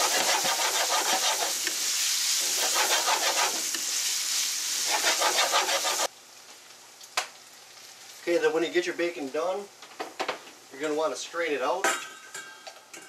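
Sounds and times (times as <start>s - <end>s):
bacon sizzling in a pan: 0.0s - 11.6s.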